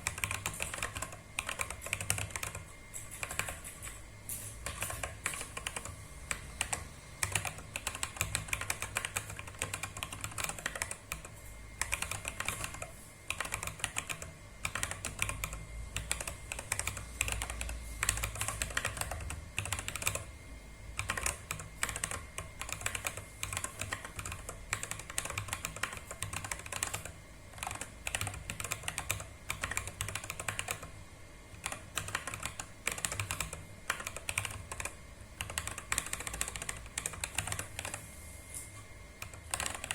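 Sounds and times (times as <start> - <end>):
mechanical keyboard typing: 0.0 - 4.0, 4.6 - 20.3, 20.9 - 38.0, 39.2 - 39.9.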